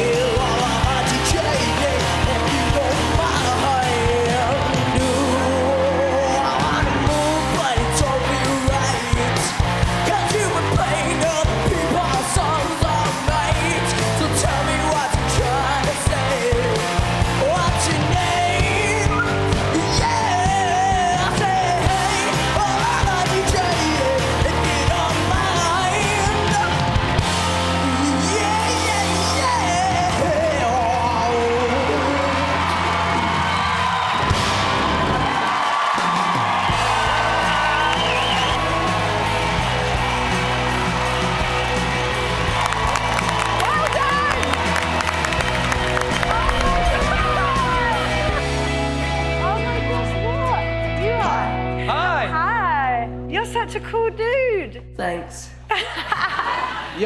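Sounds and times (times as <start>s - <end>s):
rock band playing: 0.0s - 54.6s.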